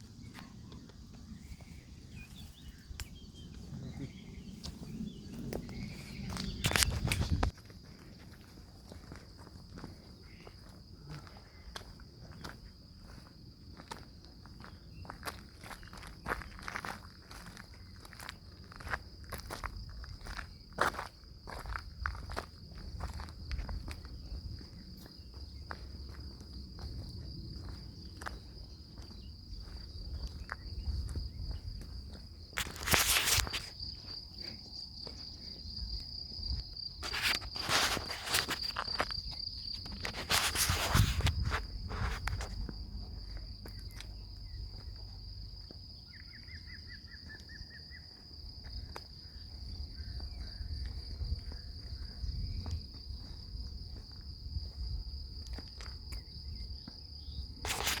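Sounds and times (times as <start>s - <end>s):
footsteps and rustling on ground: 0.0s - 46.3s, 47.2s - 58.0s.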